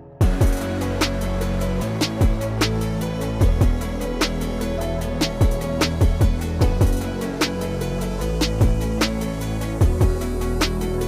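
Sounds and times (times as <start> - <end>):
held synth chords: 0.0 - 11.0
kick drum and hi-hat beat: 0.2 - 11.0.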